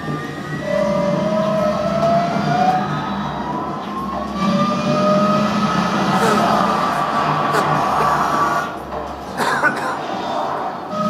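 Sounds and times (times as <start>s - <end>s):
electric race car motors whining: 0.0s - 9.1s.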